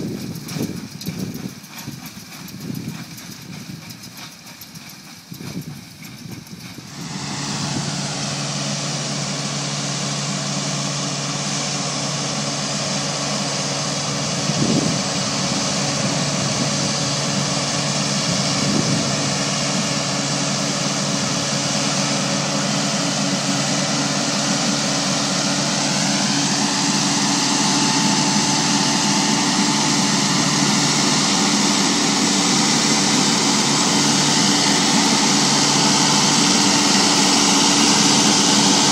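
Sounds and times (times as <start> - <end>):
diesel engine working under load: 0.0 - 38.9
high rising whine: 6.2 - 38.9.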